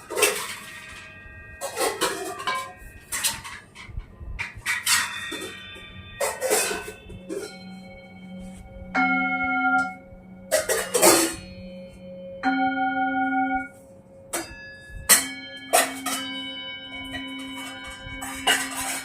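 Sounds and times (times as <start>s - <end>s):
bell-like chiming tones: 0.0s - 19.0s.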